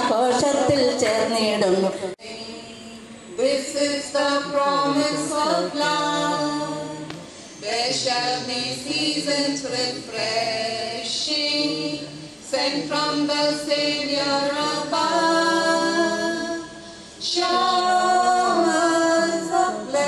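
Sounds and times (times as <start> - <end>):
person singing unaccompanied: 3.4 - 20.0.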